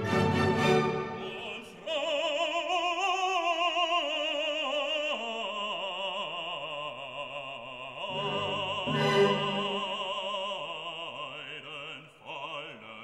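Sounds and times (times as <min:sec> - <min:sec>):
opera singer with wide vibrato: 0:00.6 - 0:13.0.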